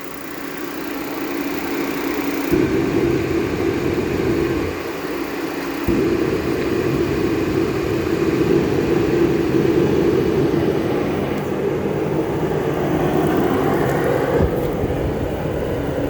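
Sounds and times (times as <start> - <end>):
heater air rushing: 0.0 - 16.0
heater low hum: 0.0 - 16.0.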